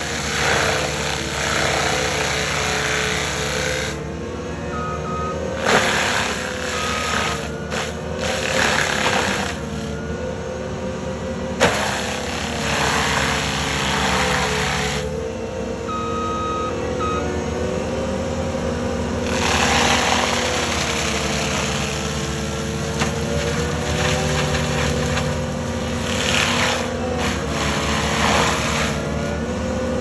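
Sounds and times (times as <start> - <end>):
diesel engine running hard: 0.0 - 30.0
mulcher rotor shredding brush: 0.0 - 30.0.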